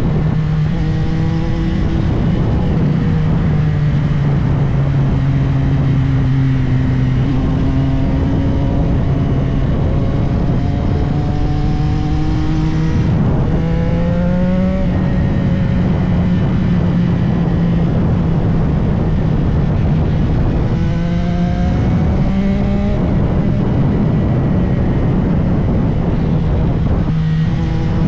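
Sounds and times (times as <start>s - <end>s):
motorcycle engine accelerating: 0.0s - 28.0s
wind rush: 0.0s - 28.0s.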